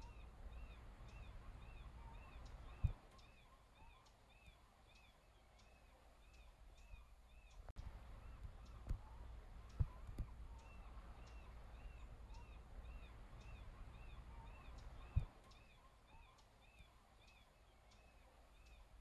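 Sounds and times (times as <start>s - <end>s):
bird chirping: 0.0s - 19.0s
faint outdoor ambience: 0.0s - 19.0s.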